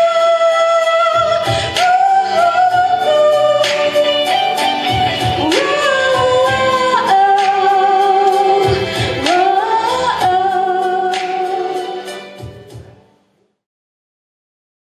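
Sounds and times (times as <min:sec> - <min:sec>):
woman singing: 0:00.0 - 0:12.4
instrumental music with steady beat: 0:00.0 - 0:13.6.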